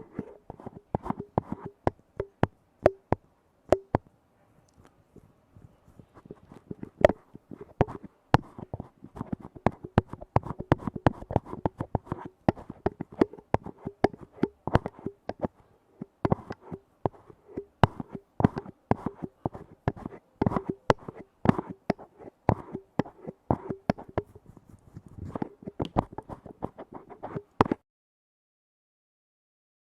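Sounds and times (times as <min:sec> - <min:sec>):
rapid tapping on lids: 0:00.0 - 0:04.0, 0:06.0 - 0:24.6, 0:25.2 - 0:27.8.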